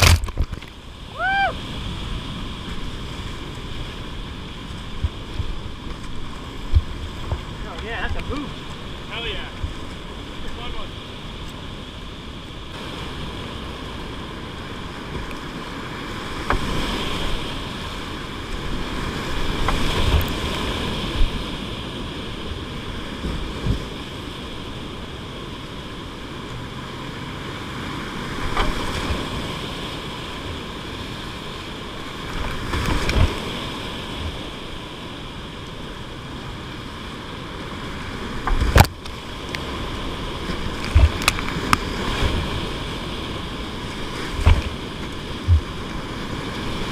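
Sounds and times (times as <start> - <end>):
waves splashing against boat: 0.0 - 46.9
whitewater roaring: 0.0 - 46.9.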